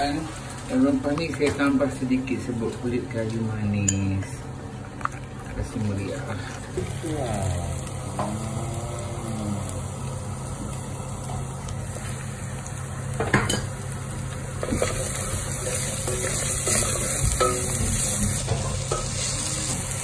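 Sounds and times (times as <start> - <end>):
paste frying in hot oil: 0.0 - 20.0
steady low hum: 2.4 - 19.1.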